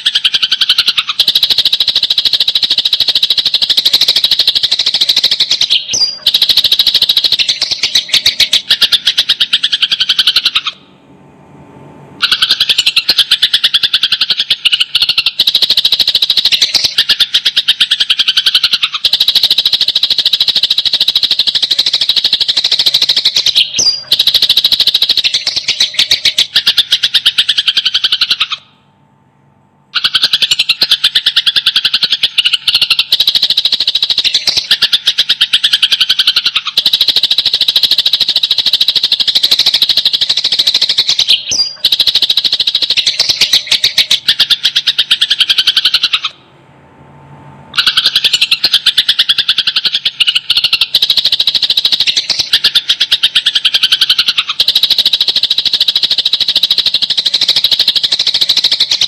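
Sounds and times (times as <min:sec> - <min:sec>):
sparrows chirping: 0:00.0 - 0:10.8, 0:12.2 - 0:28.6, 0:30.0 - 0:46.3, 0:47.8 - 0:59.0.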